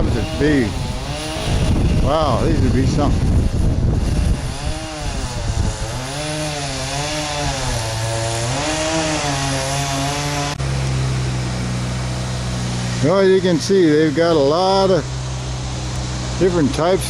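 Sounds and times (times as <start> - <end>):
power saw cutting wood: 0.0 - 17.0.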